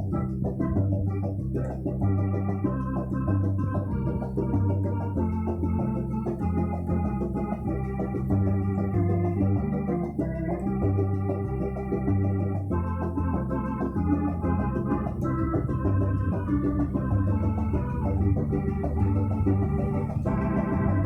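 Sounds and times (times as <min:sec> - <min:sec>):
electronic organ playing chords: 0:00.0 - 0:21.0.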